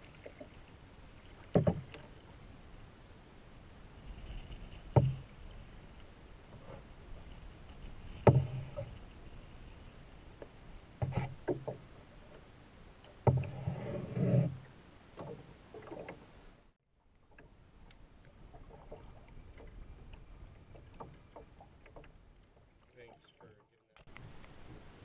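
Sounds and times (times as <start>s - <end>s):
kayak paddling: 0.0s - 25.0s
water noise: 0.0s - 25.0s.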